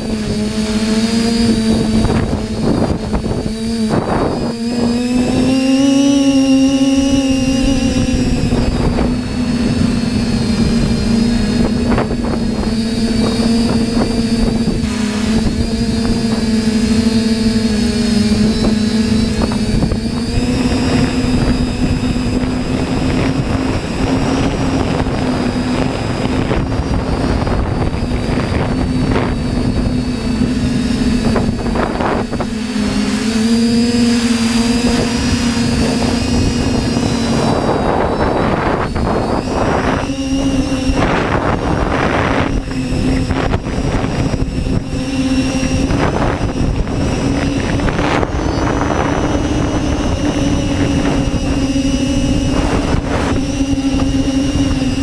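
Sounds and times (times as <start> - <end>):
quadcopter motors buzzing: 0.0 - 55.0
wind buffeting microphone: 0.0 - 55.0.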